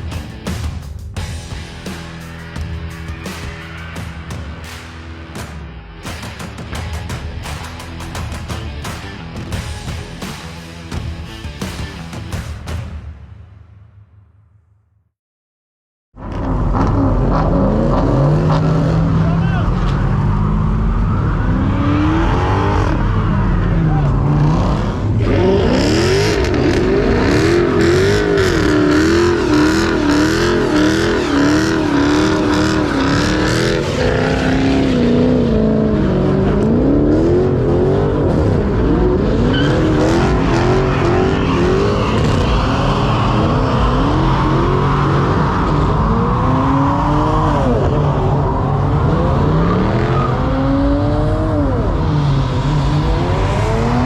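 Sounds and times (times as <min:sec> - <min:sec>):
car engines revving: 0:01.2 - 0:12.2, 0:16.2 - 0:54.0.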